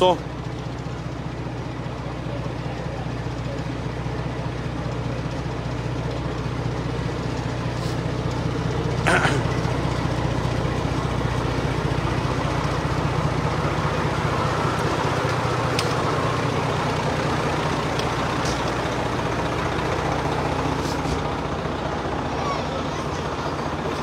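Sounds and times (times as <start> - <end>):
fire truck engine idling: 0.0 - 24.0.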